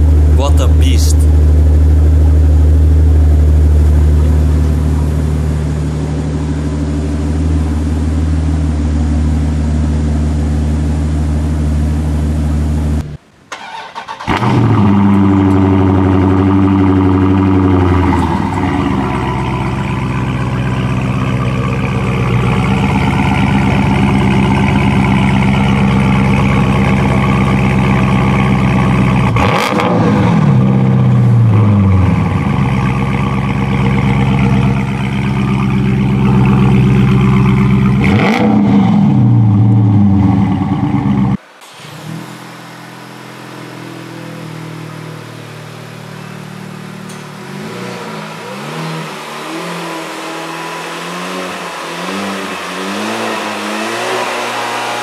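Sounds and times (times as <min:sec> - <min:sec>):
car engine idling: 0:00.0 - 0:55.0
car engine revving: 0:00.0 - 0:55.0
car engine starting: 0:00.0 - 0:55.0.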